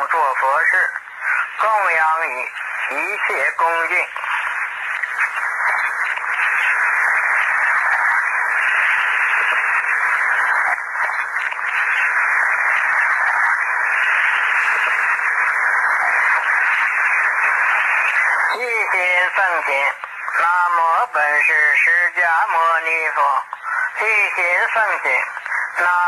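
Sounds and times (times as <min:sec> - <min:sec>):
old recording hiss: 0:00.0 - 0:26.0.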